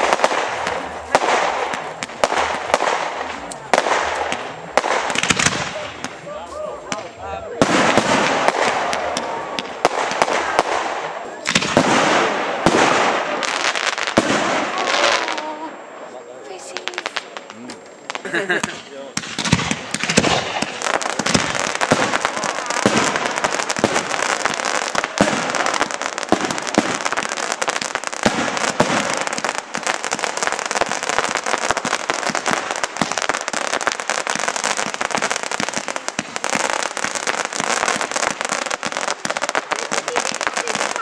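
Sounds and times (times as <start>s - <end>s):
fireworks bangs: 0.0s - 41.0s
fireworks crackling: 0.0s - 41.0s.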